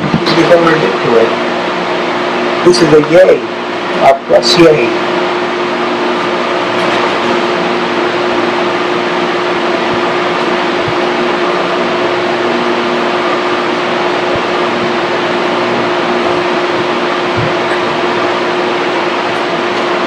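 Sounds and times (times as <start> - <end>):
fan running: 0.0 - 20.0.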